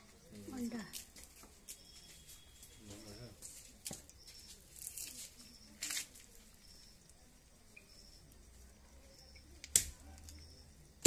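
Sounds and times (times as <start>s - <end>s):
faint high chirp: 0.0s - 11.0s.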